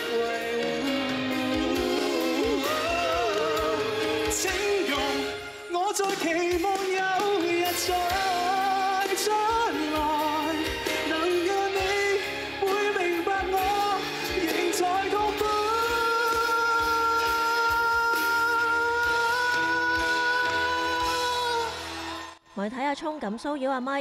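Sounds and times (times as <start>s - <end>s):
man singing slow ballad: 0.0s - 22.1s
band accompaniment: 0.0s - 22.4s.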